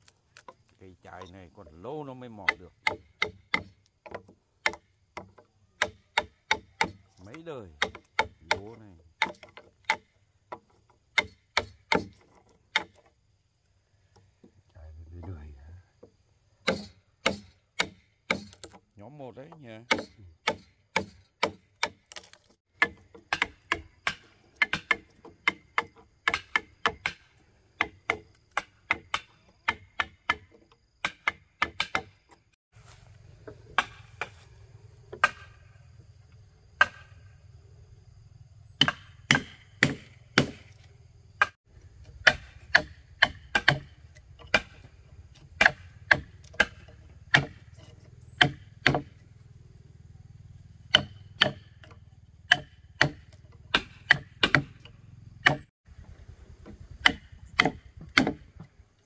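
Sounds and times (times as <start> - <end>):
hand tool striking wood: 2.0 - 13.1, 15.2 - 18.9, 19.5 - 34.5, 35.1 - 35.8, 36.8 - 37.2, 38.8 - 49.3, 50.9 - 55.7, 56.6 - 58.8.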